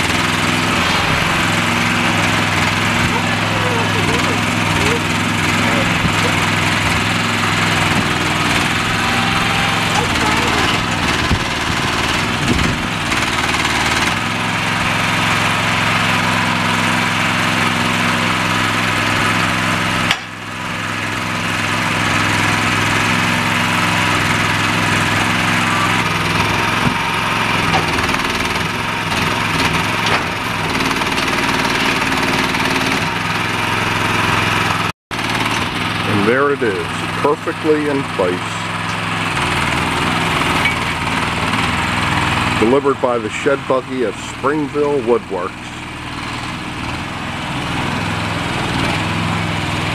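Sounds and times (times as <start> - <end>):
small engine running steadily: 0.0 - 49.9.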